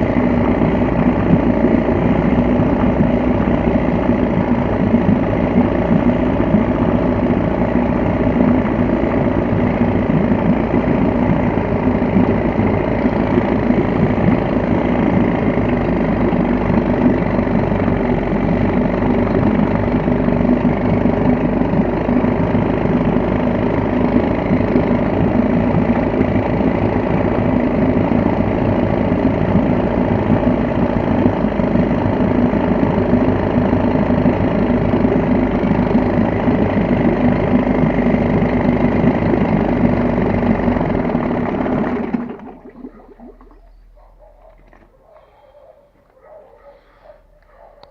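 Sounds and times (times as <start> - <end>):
outboard motor running: 0.0 - 47.9.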